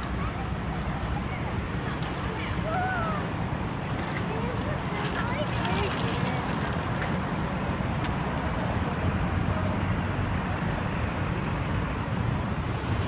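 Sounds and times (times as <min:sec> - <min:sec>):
vehicle and road noise rumble: 0:00.0 - 0:13.0.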